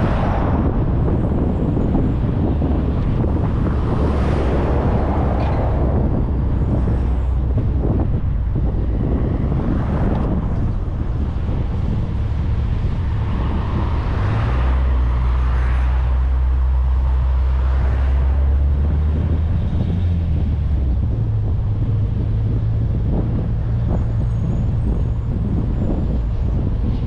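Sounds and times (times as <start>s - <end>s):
car engine hum: 0.0s - 27.0s
wind and road noise: 0.0s - 27.0s.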